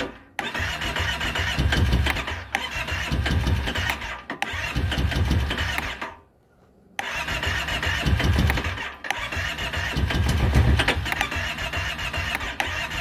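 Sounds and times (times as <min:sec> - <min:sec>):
engine cranking on starter: 0:00.0 - 0:06.3, 0:07.0 - 0:13.0.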